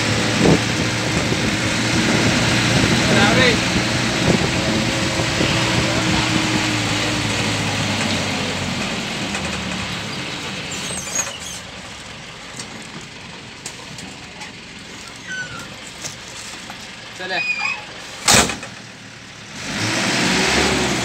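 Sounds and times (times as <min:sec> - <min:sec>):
road noise: 0:00.0 - 0:21.0
vehicle engine running: 0:00.0 - 0:21.0.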